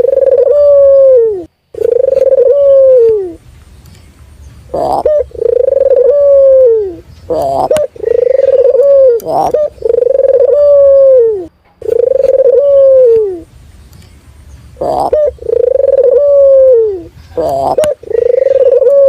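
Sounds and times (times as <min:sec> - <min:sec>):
doves cooing: 0:00.0 - 0:03.4, 0:04.7 - 0:13.5, 0:14.8 - 0:19.0.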